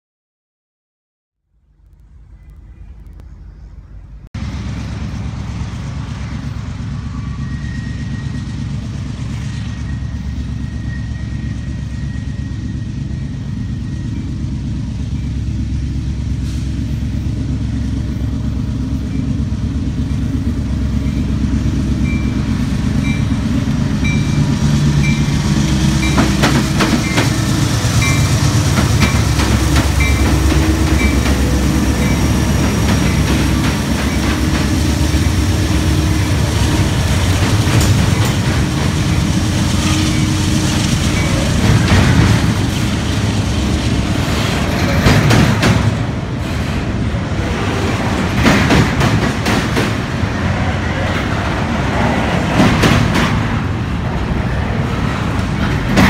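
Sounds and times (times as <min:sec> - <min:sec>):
locomotive engine rumble: 0:01.5 - 0:56.0.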